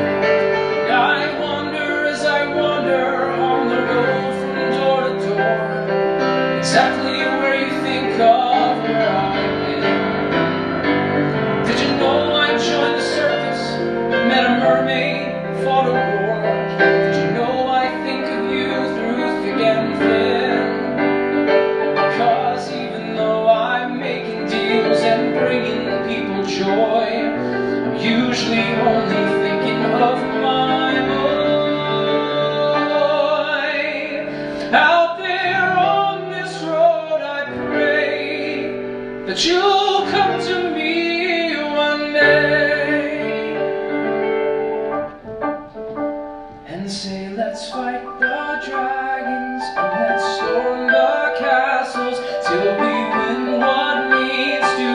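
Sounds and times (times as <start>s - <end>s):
man singing into a microphone: 0.0s - 10.5s, 11.5s - 44.3s, 46.6s - 54.9s
piano accompaniment: 0.0s - 54.9s.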